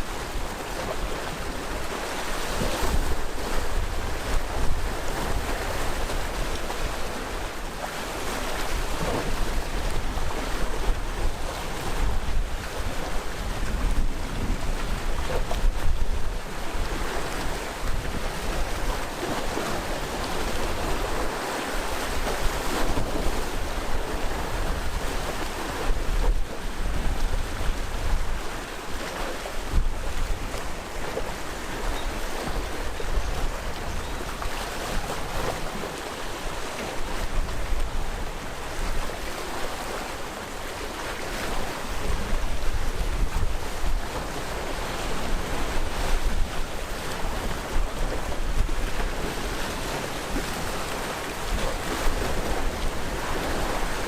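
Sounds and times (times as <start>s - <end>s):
sea waves washing onto shore: 0.0s - 54.0s
wind on microphone: 0.0s - 54.0s.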